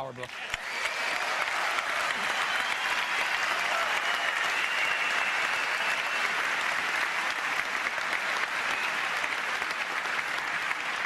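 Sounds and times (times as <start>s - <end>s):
audience applauding: 0.3s - 11.0s.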